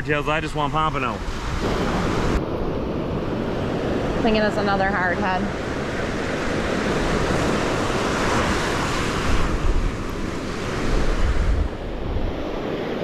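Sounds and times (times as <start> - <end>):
wind gusting on microphone: 0.0 - 13.0
surf breaking on beach: 0.2 - 13.0.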